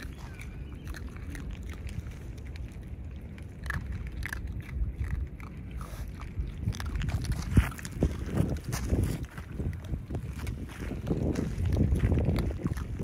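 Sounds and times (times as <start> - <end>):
animal crunching dry kibble: 0.0 - 13.0.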